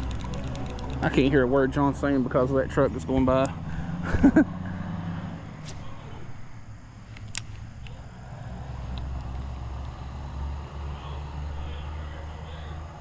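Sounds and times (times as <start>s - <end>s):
truck engine and tyre rumble: 0.0s - 13.0s.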